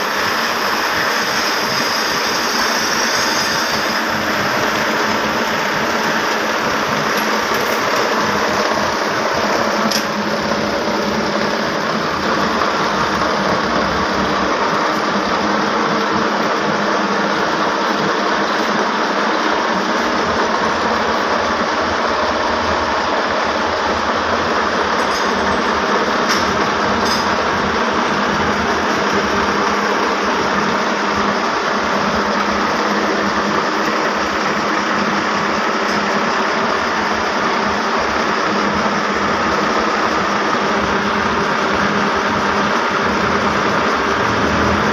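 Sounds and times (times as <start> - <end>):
loom machinery running: 0.0 - 44.9.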